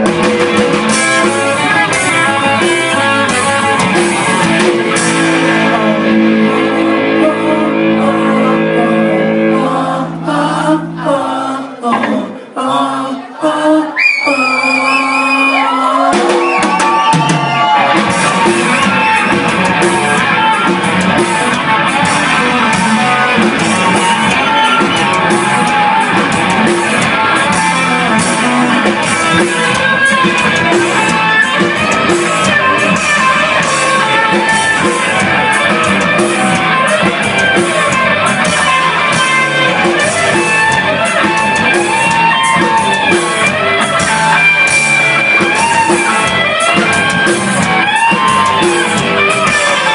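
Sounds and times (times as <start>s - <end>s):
drum kit beat: 0.0s - 8.7s, 16.0s - 49.9s
electric guitar: 0.0s - 12.4s, 14.8s - 49.9s.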